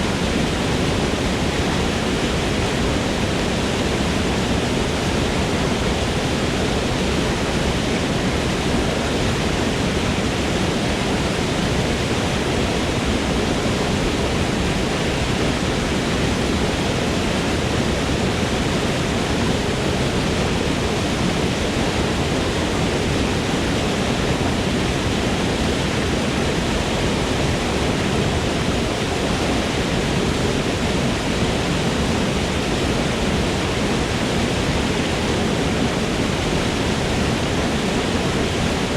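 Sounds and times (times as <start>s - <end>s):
waterfall roar: 0.0s - 38.9s.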